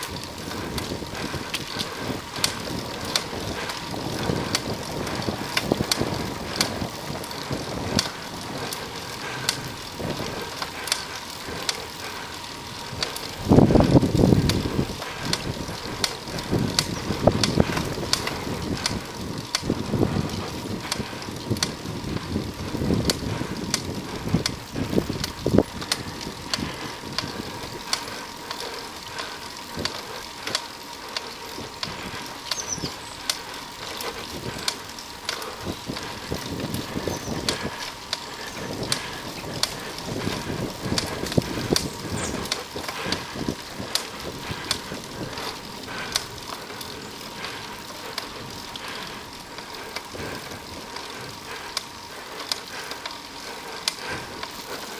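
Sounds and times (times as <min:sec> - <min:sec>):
bike ticks and rattles: 0:00.0 - 0:54.9
road and wind noise: 0:00.0 - 0:54.9.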